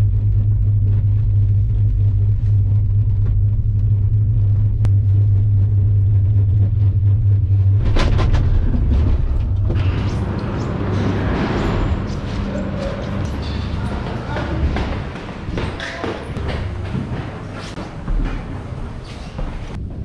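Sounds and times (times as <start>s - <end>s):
gondola cabin humming and rumbling: 0.0s - 20.0s.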